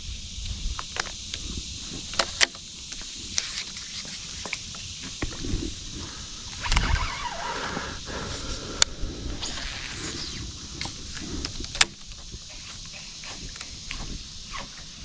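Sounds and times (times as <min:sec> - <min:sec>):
outdoor hiss: 0:00.0 - 0:15.0
rustle with low thumps: 0:00.0 - 0:15.0.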